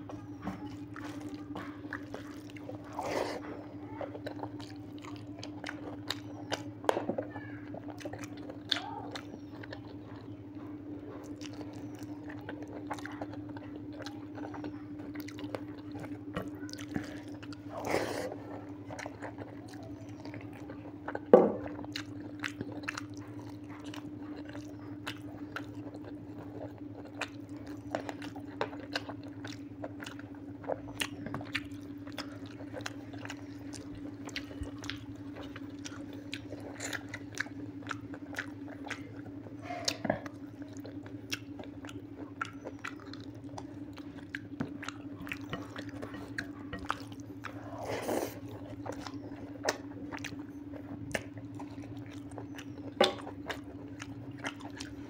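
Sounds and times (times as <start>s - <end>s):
steady low hum: 0.0s - 55.0s
wet chewing: 0.0s - 55.0s.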